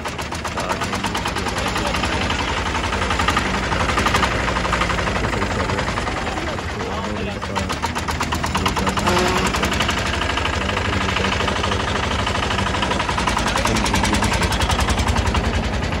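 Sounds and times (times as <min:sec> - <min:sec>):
diesel engine knocking: 0:00.0 - 0:16.0.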